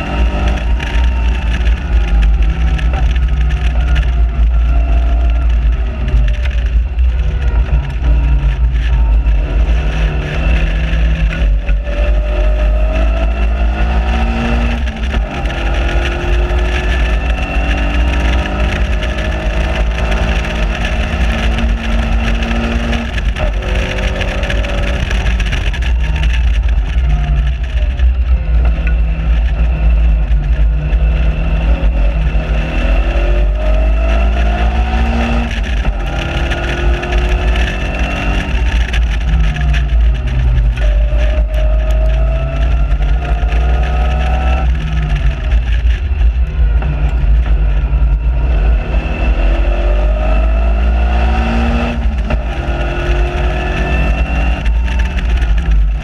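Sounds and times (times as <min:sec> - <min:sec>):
car engine revving: 0:00.0 - 0:56.0
wind rumble: 0:00.0 - 0:56.0.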